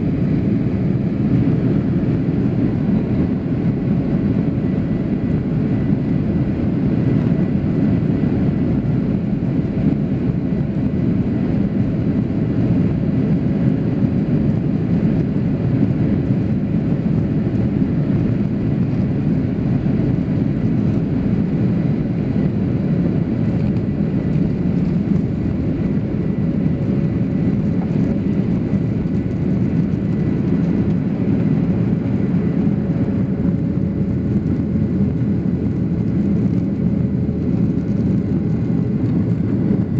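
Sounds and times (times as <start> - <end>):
jet engines loud rumble: 0.0 - 39.9.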